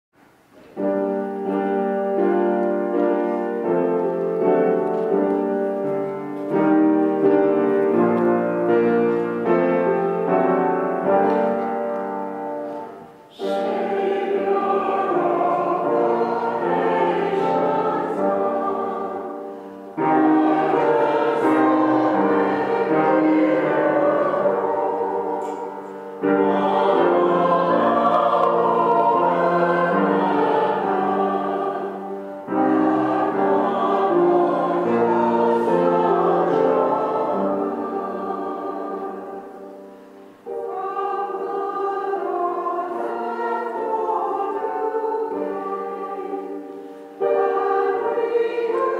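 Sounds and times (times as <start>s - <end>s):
church choir singing: 0.8s - 48.9s.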